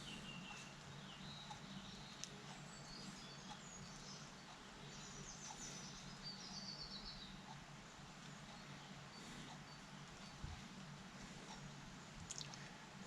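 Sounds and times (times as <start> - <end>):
faint birdsong: 0.0 - 13.0
low steady background hum: 0.0 - 13.0.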